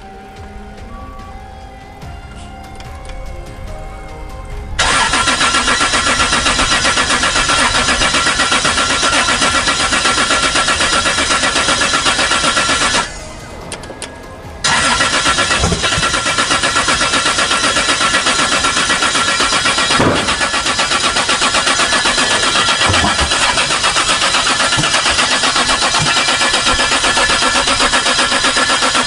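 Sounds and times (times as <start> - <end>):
car engine cranking: 4.8 - 29.0.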